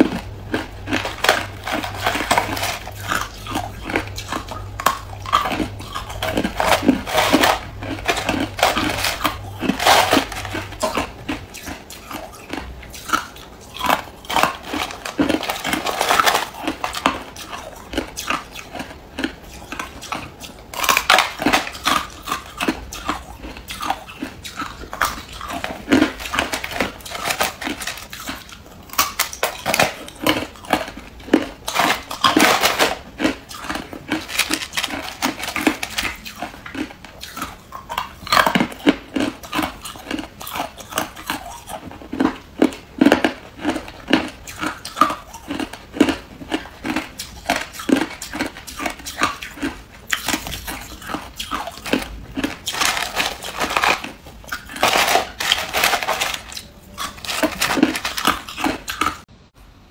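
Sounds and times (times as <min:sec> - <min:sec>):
person crunching ice: 0:00.0 - 0:59.2.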